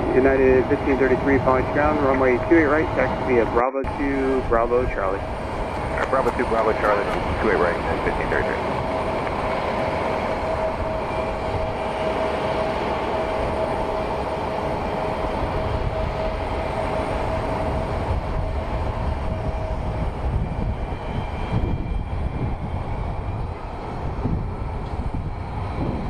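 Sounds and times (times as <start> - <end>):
jet engine whine: 0.0 - 26.0.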